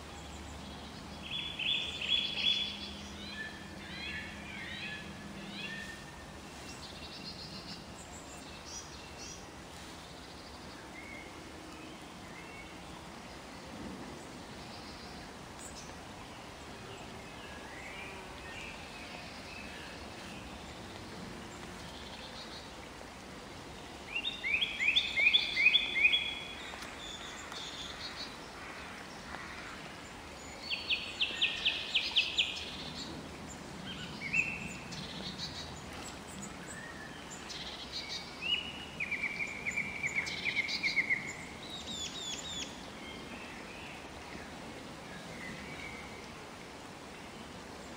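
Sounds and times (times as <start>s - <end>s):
background hiss: 0.0s - 47.9s.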